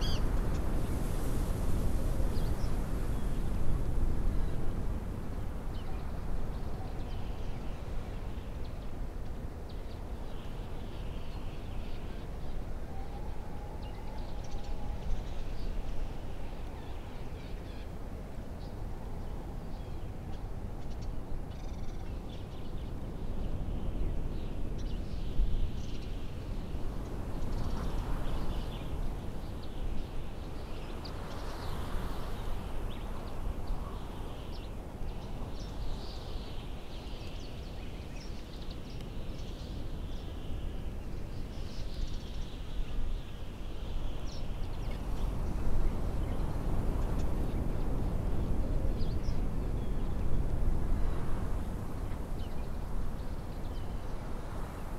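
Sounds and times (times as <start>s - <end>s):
low wind rumble: 10.6s - 54.9s.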